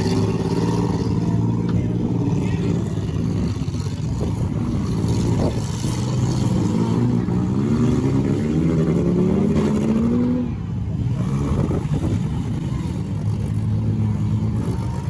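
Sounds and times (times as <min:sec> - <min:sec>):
car engines running hard: 0:00.0 - 0:15.0
engine revving: 0:00.0 - 0:15.0.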